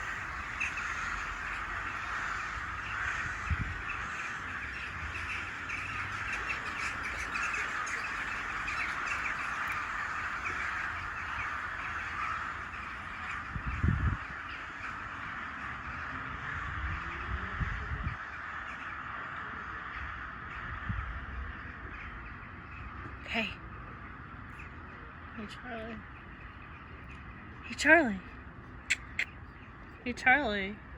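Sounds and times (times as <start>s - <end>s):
flock of birds calling: 0.0s - 30.9s.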